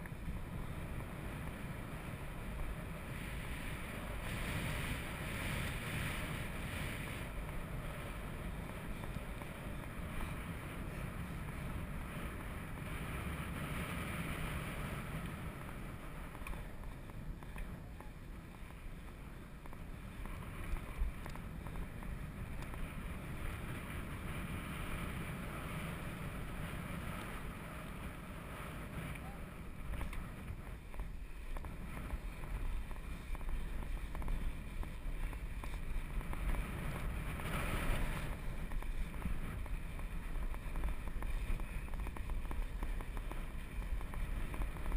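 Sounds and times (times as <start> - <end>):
bicycle ride vibration rumble: 0.0 - 44.9
wind over microphone: 0.0 - 44.9.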